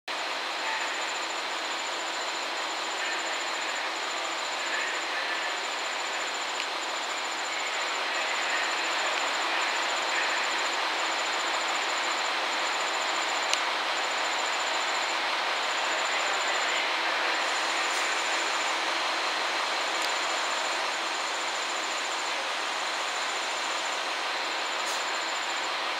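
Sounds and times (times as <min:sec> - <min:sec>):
diesel train engines humming: 0:00.2 - 0:25.9.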